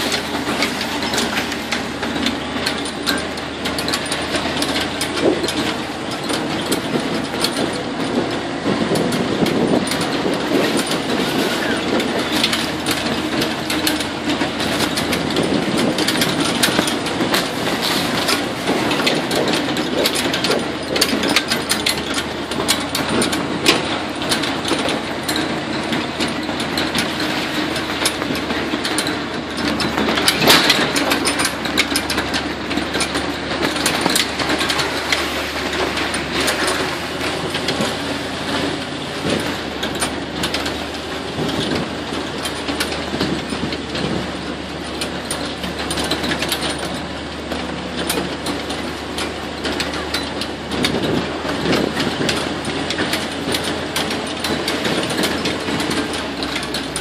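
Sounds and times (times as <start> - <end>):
vehicle engine running: 0.0 - 57.0
vehicle frame clattering: 0.0 - 57.0.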